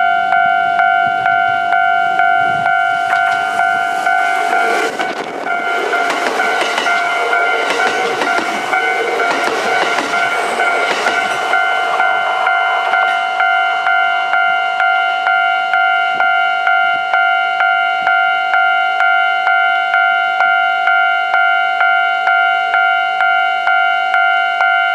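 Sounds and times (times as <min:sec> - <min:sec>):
train passing close by: 0:00.0 - 0:24.8
level crossing bell ringing: 0:00.0 - 0:24.9.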